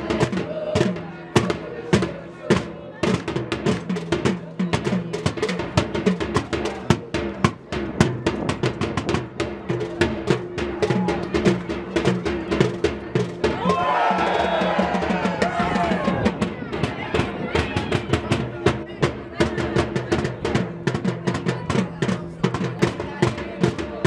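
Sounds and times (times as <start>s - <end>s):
fast drum beat: 0.0s - 24.0s.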